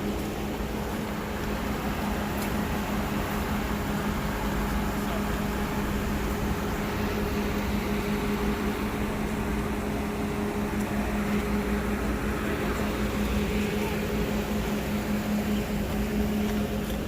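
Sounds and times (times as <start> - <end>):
mechanical drone with low hum: 0.0 - 17.0.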